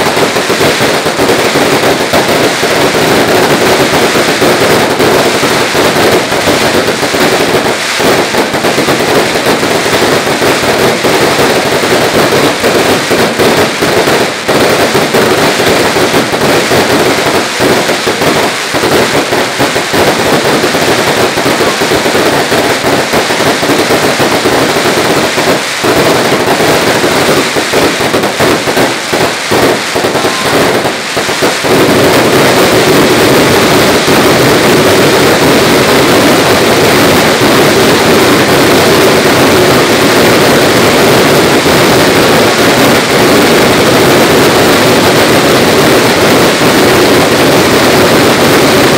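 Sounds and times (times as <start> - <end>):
spark fountains rushing: 0.0 - 43.2
firecrackers crackling: 0.0 - 48.9
sharp firework bangs: 0.0 - 48.9.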